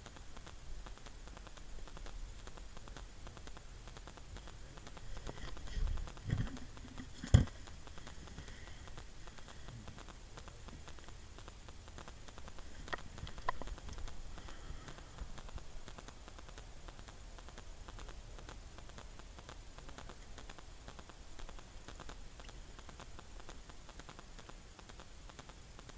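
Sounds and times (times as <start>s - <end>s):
faint patter of small ticks: 0.0s - 25.9s.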